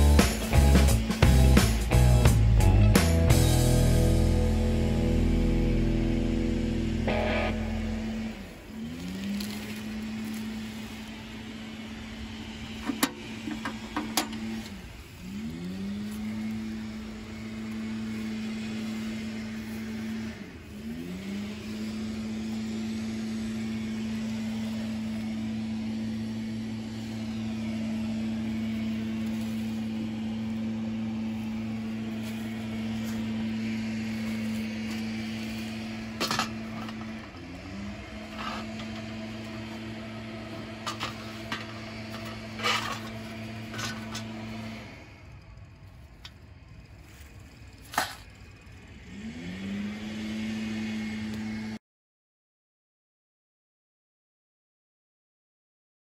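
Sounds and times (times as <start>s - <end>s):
engine humming: 0.0s - 51.8s.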